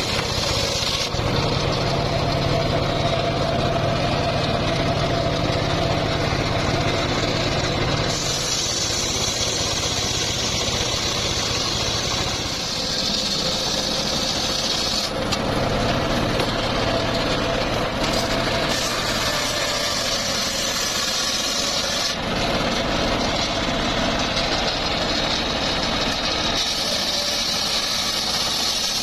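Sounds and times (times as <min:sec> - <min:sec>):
circular sawmill running: 0:00.0 - 0:29.0
saw blade cutting wood: 0:00.0 - 0:29.0.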